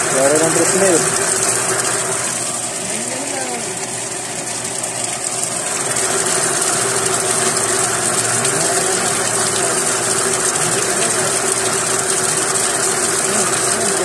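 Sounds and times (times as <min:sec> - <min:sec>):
electric pump humming: 0:00.0 - 0:14.0
water gushing and splashing: 0:00.0 - 0:14.0.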